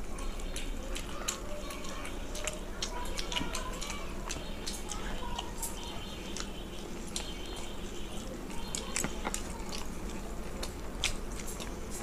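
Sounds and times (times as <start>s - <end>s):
people chewing and lip smacking: 0.0s - 12.0s.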